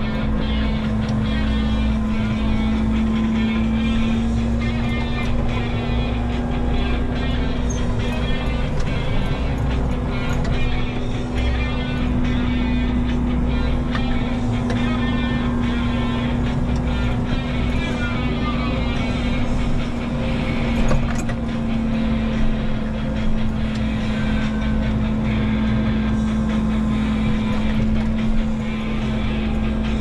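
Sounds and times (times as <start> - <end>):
excavator diesel engine and hydraulics: 0.0 - 30.0.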